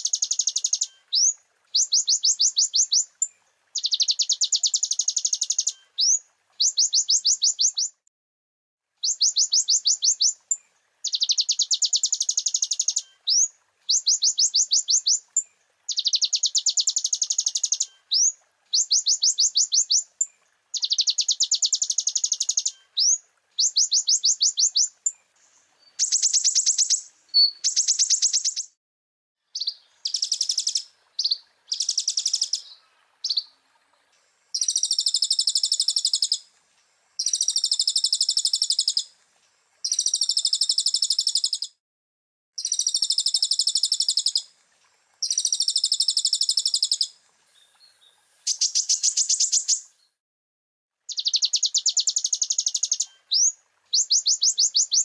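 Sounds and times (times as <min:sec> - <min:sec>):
sunbird singing rapid trills: 0:00.0 - 0:08.0, 0:09.0 - 0:15.2, 0:15.9 - 0:28.8, 0:29.5 - 0:33.6, 0:34.6 - 0:36.4, 0:37.2 - 0:39.1, 0:39.8 - 0:41.8, 0:42.6 - 0:44.5, 0:45.2 - 0:50.2, 0:51.1 - 0:55.0.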